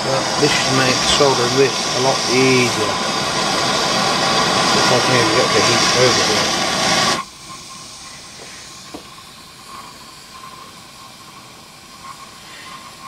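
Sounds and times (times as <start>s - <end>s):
gas soldering iron flame hissing: 0.0s - 13.0s.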